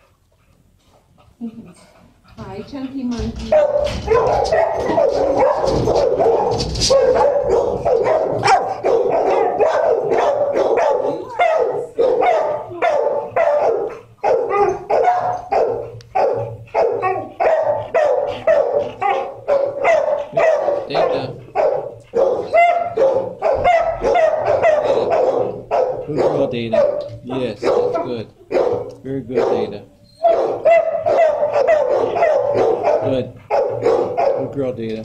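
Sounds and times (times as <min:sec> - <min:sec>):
dogs barking: 0:02.3 - 0:35.0.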